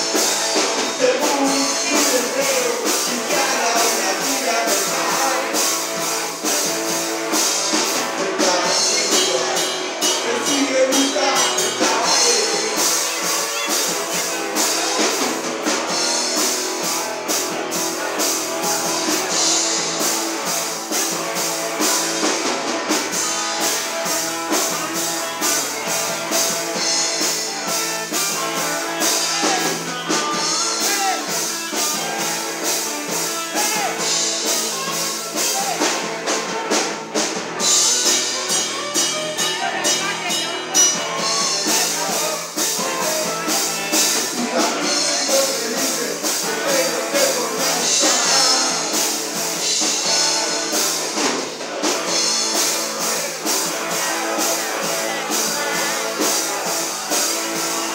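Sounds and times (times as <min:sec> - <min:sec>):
person singing: 0:00.0 - 0:17.0, 0:17.7 - 0:57.9
drum kit beat: 0:00.0 - 0:57.9
electric guitars: 0:00.0 - 0:57.9.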